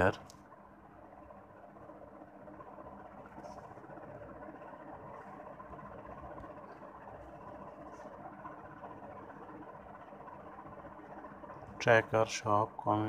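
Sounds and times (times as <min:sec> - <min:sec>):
faint background hum and hiss: 0:00.0 - 0:13.0.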